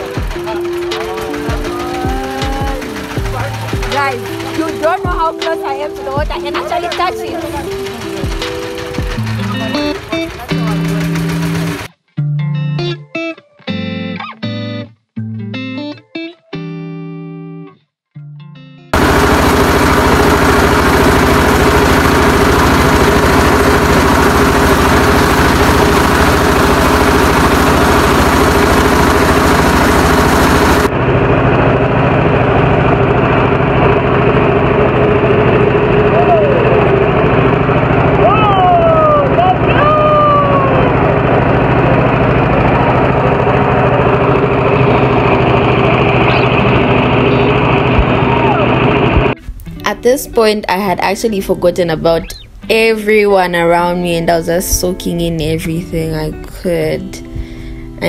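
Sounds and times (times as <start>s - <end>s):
boat engine running: 0.0s - 11.9s, 19.0s - 58.0s.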